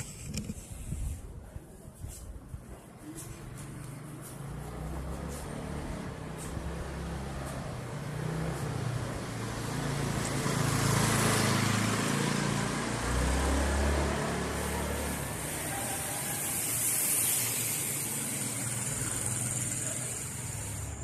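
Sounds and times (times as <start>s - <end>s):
vehicle passing by: 3.2s - 21.0s.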